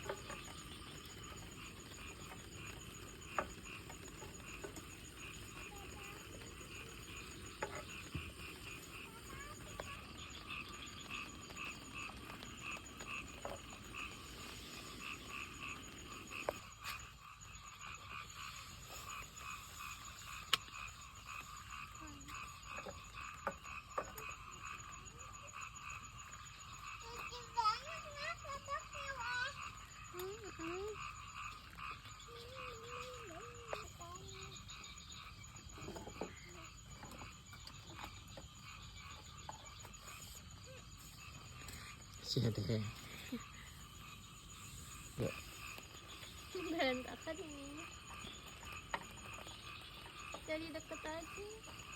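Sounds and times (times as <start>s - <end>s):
frogs croaking: 0.0s - 51.9s.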